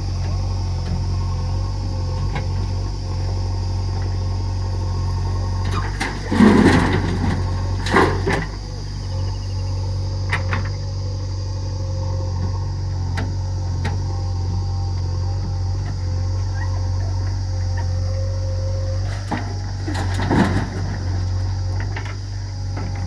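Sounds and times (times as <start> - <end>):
heavy diesel engines running: 0.0 - 23.0.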